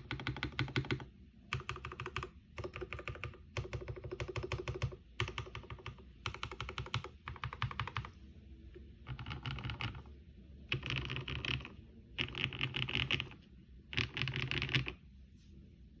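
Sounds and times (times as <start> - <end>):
mechanical keyboard typing: 0.0 - 8.2, 9.0 - 10.1, 10.7 - 15.0.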